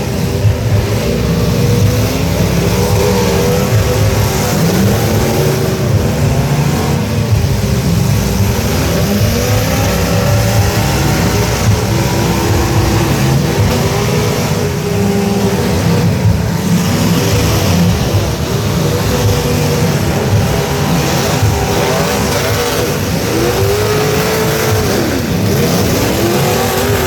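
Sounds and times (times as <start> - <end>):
truck engines revving: 0.0 - 27.0.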